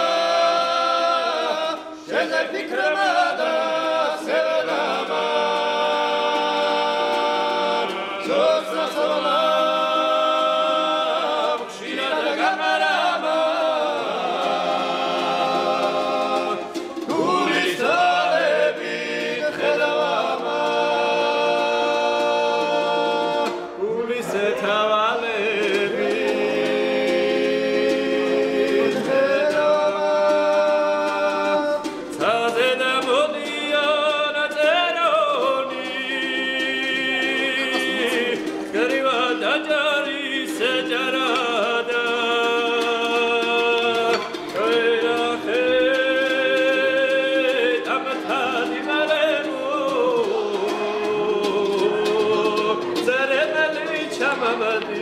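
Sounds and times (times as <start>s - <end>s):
men singing in harmony: 0.0s - 55.0s.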